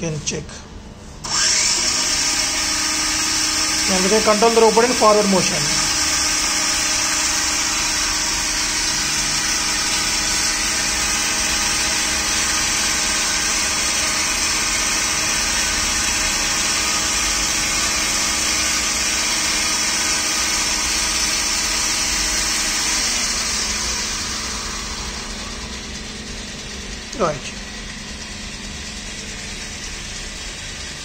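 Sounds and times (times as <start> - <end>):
small motor whining: 1.2 - 31.0.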